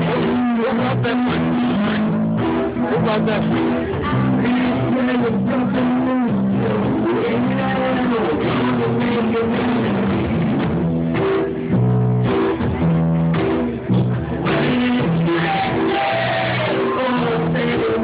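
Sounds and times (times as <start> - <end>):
bass guitar: 0.0 - 18.0
drum kit: 0.0 - 18.0
guitar: 0.0 - 18.0.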